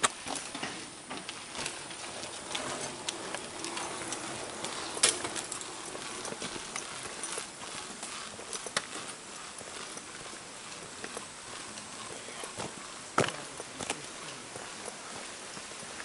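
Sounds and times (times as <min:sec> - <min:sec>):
footsteps on paved path: 0:00.0 - 0:16.0.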